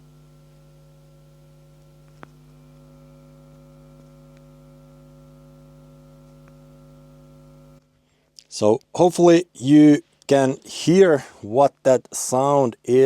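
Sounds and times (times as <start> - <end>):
mains hum from subwoofers: 0.0 - 13.0.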